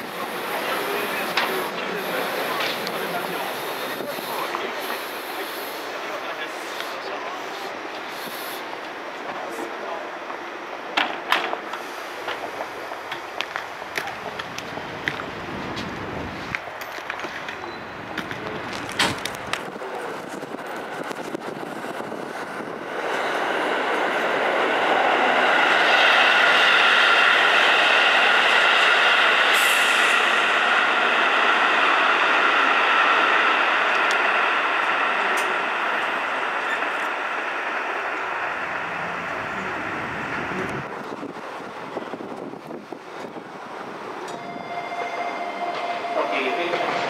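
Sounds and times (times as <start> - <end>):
electric train running: 0.0 - 6.4, 11.7 - 47.0
train whine: 0.0 - 47.0.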